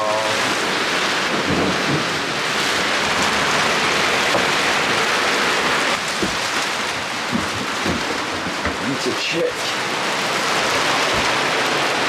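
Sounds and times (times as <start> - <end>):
heavy rain pouring on a boat: 0.0 - 12.0.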